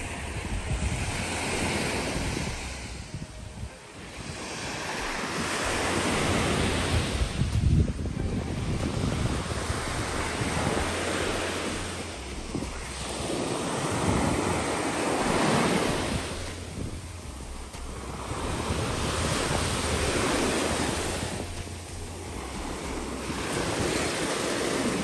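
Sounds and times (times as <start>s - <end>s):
sea waves washing in: 0.0s - 25.0s
wind rumbling on microphone: 0.0s - 25.0s.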